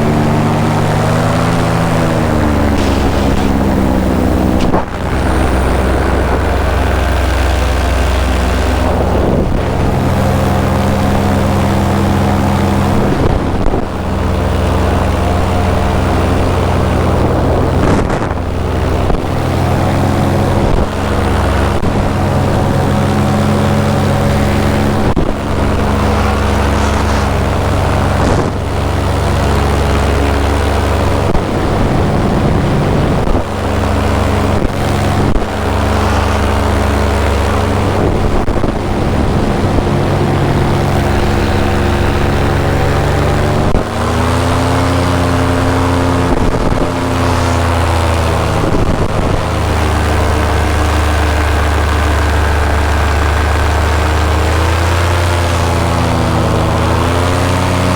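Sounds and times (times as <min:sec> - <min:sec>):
paramotor engine and propeller: 0:00.0 - 0:57.9.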